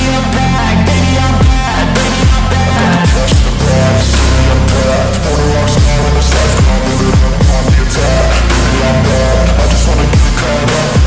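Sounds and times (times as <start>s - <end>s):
electronic rap instrumental: 0.0s - 11.0s
falling bass slide: 0.0s - 11.0s.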